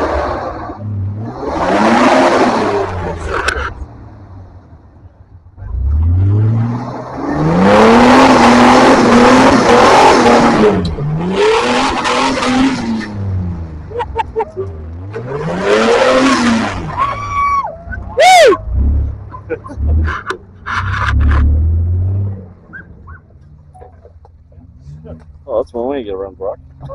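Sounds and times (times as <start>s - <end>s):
off-road vehicle engine revving: 0.0s - 26.9s.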